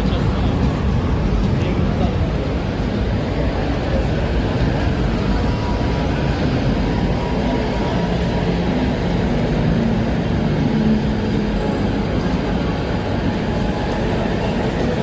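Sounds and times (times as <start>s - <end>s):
moving train rumble: 0.0s - 15.0s.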